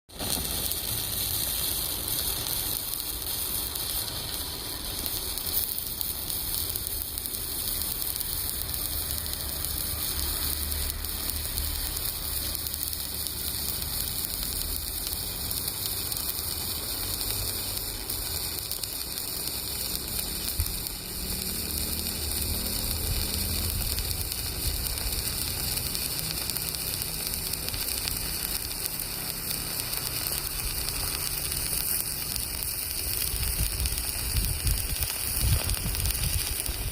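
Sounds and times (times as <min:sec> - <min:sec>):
arc welding crackling sizzle: 0:00.1 - 0:36.9.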